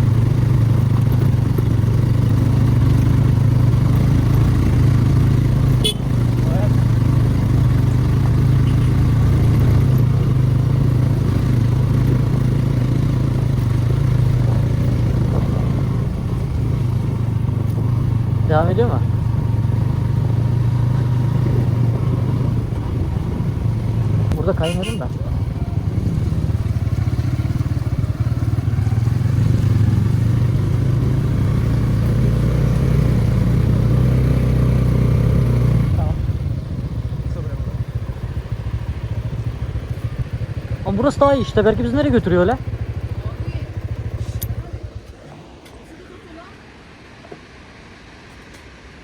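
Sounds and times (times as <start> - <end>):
motorcycle engine running steadily: 0.0 - 48.9.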